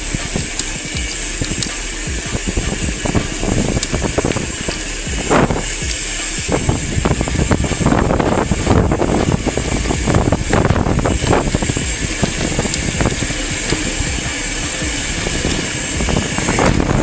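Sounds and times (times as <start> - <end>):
bike rattling: 0.0 - 17.0
bike tyre rumble: 0.0 - 17.0
wind buffeting microphone: 0.0 - 17.0.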